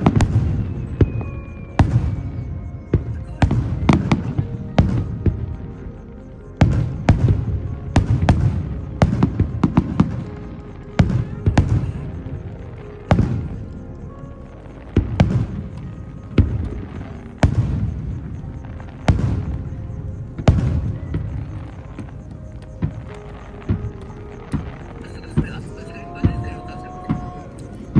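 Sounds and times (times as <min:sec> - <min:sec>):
firework shells bursting: 0:00.0 - 0:27.9.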